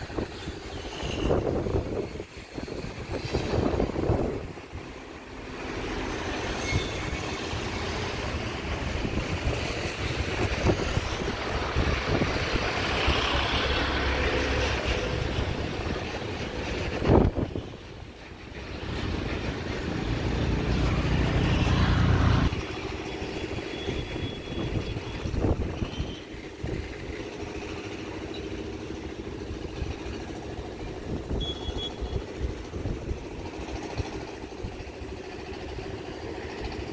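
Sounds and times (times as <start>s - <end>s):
vehicle noise rumble: 0.0s - 36.9s.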